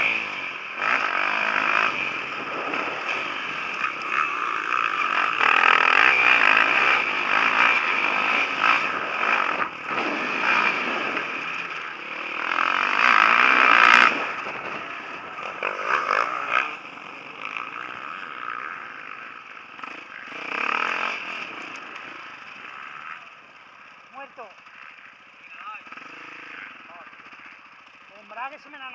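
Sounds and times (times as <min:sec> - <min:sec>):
motocross bike engines revving: 0:00.0 - 0:28.9.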